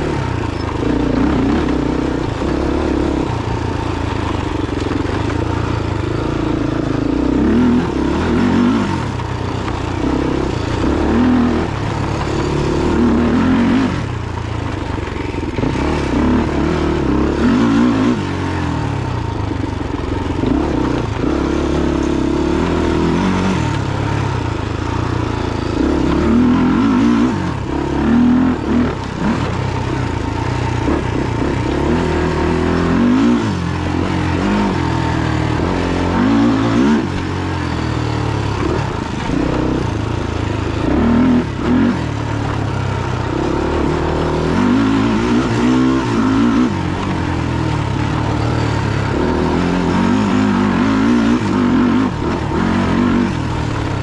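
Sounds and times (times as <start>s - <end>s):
quad engine revving hard: 0.0s - 4.1s, 4.7s - 14.3s, 15.4s - 19.3s, 20.2s - 24.5s, 25.5s - 54.0s.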